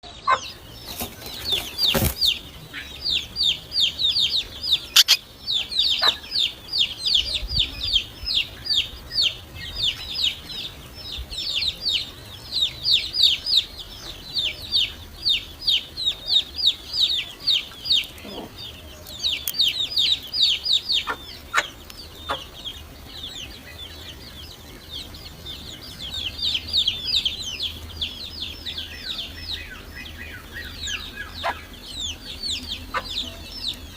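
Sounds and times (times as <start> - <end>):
nestlings begging chirps: 0.0 - 33.9.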